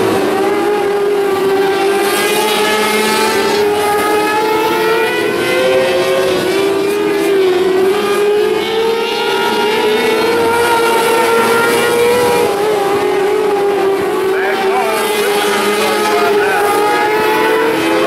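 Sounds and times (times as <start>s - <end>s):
high-revving racing engines: 0.0s - 18.0s.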